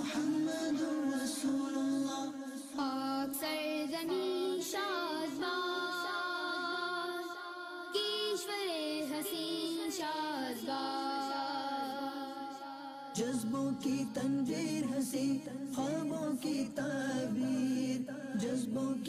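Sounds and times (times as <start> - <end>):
high voice singing a song: 0.0 - 19.0.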